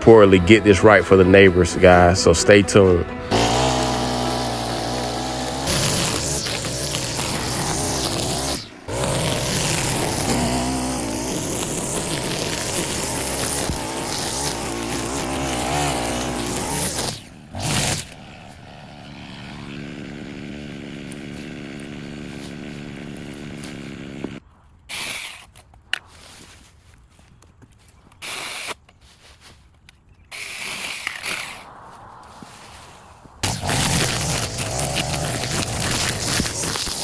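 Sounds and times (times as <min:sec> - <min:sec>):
motorised yard cutting tool: 0:00.0 - 0:26.2, 0:28.2 - 0:28.8, 0:30.3 - 0:31.7, 0:33.4 - 0:37.0.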